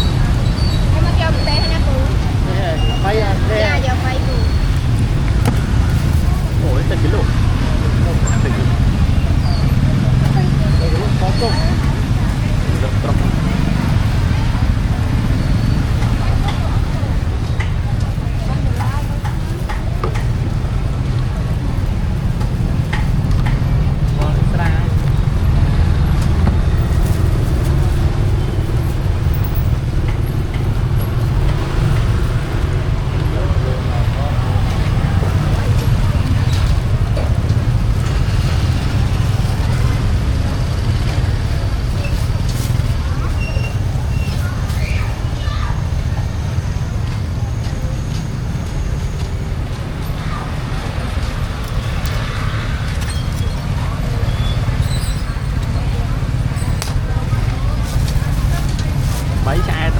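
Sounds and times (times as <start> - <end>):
background chatter: 0.0 - 59.9
road traffic rumble: 0.0 - 59.9.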